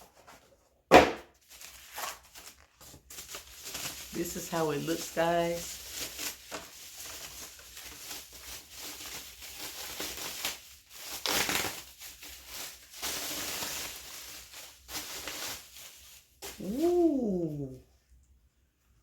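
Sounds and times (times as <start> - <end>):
plastic packaging crinkling: 1.3 - 17.7.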